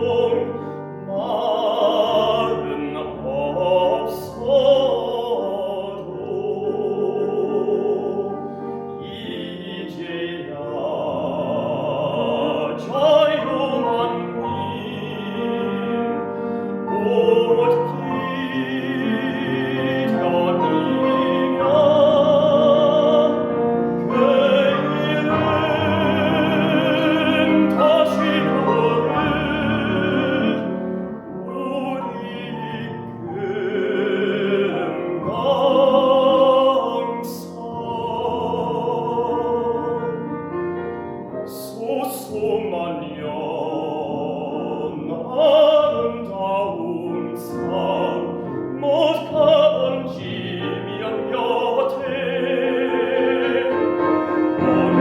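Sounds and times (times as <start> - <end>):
man singing opera: 0.0 - 55.0
piano accompaniment: 0.0 - 55.0.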